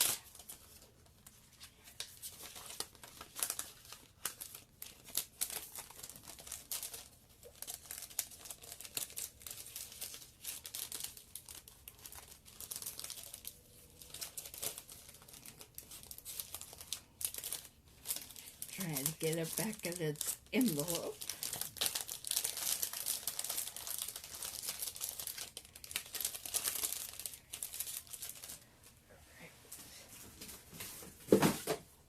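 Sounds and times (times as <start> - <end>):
packaging crinkling and rustling: 0.0 - 28.7.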